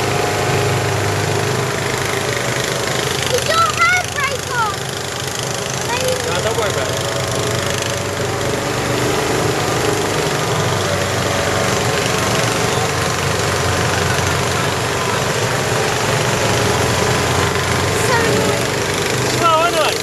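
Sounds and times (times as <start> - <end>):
buggy engine running: 0.0 - 20.0
road and wind noise: 0.0 - 20.0.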